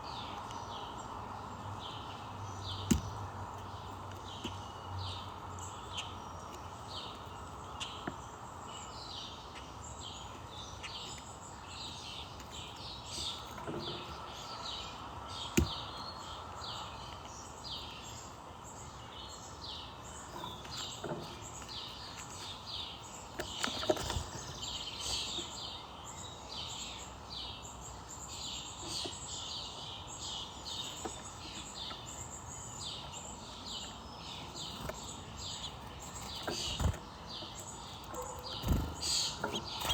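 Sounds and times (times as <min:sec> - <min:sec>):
small birds chirping: 0:00.0 - 0:39.9
steady background noise: 0:00.0 - 0:39.9.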